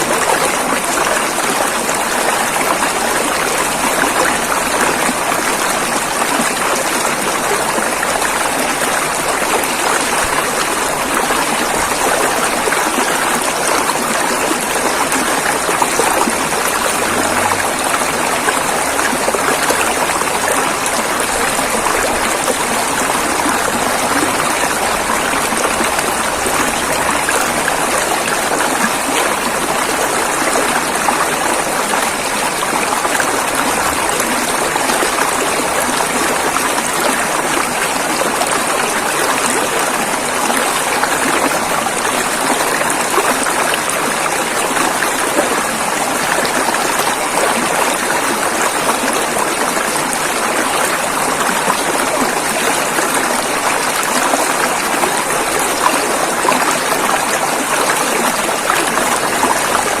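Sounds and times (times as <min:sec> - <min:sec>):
river water rushing over rocks: 0:00.0 - 1:00.0.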